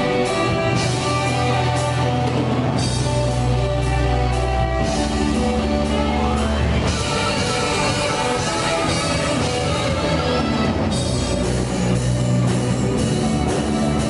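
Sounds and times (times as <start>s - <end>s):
bass guitar: 0.0s - 14.0s
drums: 0.0s - 14.0s
electric guitar: 0.0s - 14.0s
saxophone: 0.0s - 14.0s.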